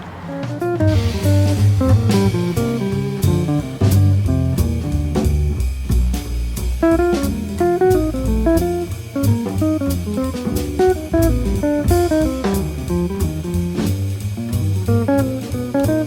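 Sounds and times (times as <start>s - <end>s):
bass: 0.0s - 16.0s
drum kit beat: 0.0s - 16.0s
jazz guitar notes: 0.1s - 16.0s.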